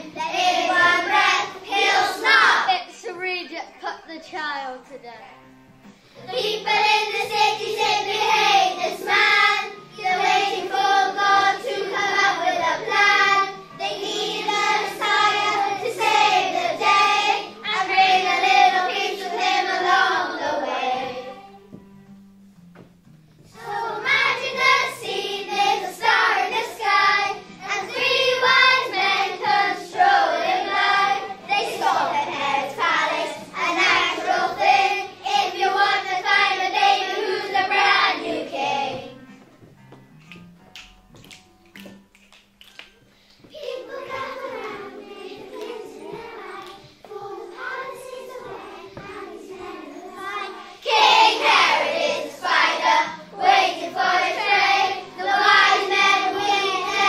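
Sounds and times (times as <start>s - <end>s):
children singing together: 0.0s - 2.7s, 6.2s - 21.7s, 23.5s - 39.2s, 43.4s - 57.0s
musical accompaniment: 0.0s - 57.0s.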